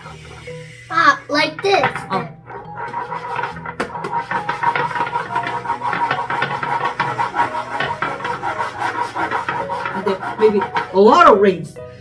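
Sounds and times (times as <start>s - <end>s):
rapid tapping and rattling: 0.0s - 11.2s
background music: 0.0s - 12.0s.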